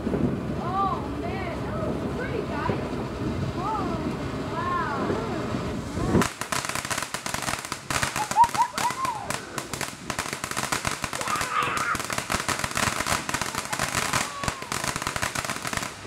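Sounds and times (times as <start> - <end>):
ground firework crackling: 0.0 - 16.0.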